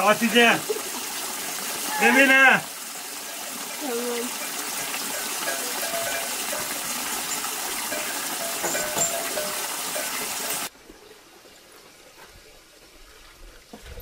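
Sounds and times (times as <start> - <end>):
running water rushing: 0.0 - 13.8.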